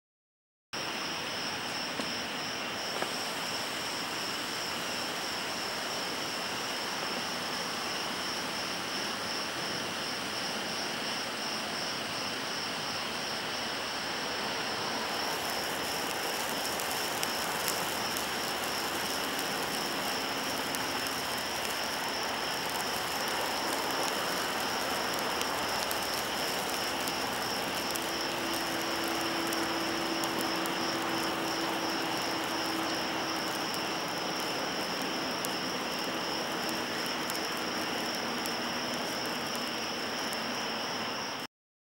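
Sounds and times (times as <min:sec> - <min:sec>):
firework fountain hissing: 0:00.8 - 0:41.5
crackling spark bursts: 0:01.0 - 0:10.2, 0:14.2 - 0:41.1.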